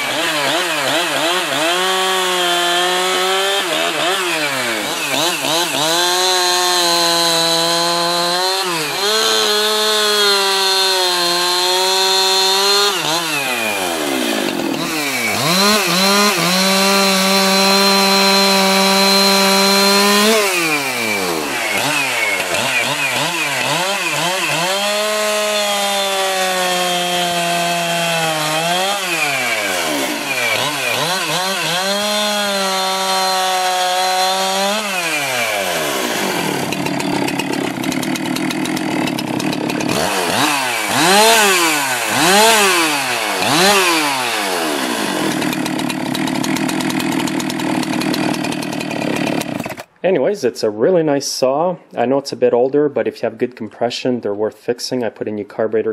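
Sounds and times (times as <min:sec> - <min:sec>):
chainsaw cutting logs: 0:00.0 - 0:50.0.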